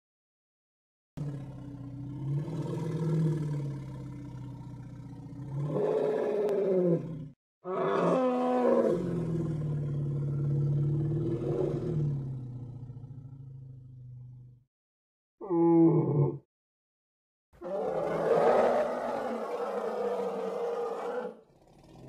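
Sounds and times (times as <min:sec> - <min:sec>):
low rumbling animal roar: 0:01.2 - 0:14.6, 0:15.4 - 0:16.5, 0:17.6 - 0:22.0.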